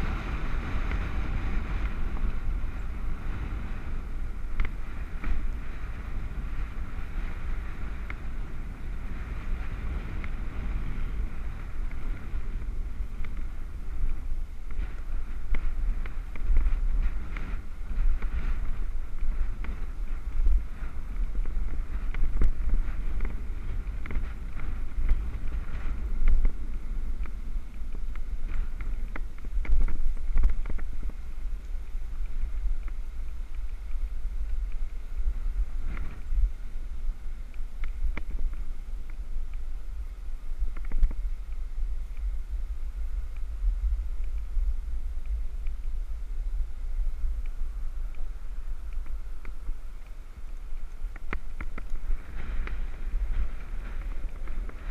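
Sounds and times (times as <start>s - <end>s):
bicycle tyre noise: 0.0s - 54.9s
wind buffeting microphone: 0.0s - 54.9s.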